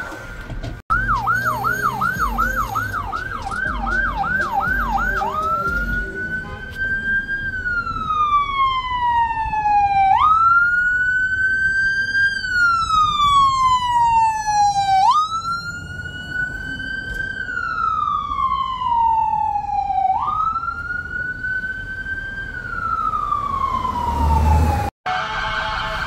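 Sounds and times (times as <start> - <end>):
fire truck siren wailing: 0.9 - 26.0.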